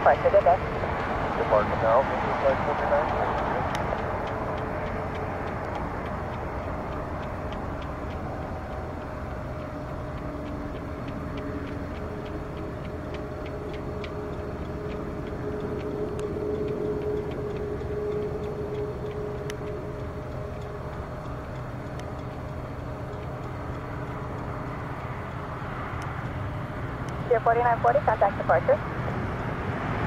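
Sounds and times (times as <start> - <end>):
jet engines rumbling: 0.0 - 30.0
faint light ticks: 2.7 - 27.2.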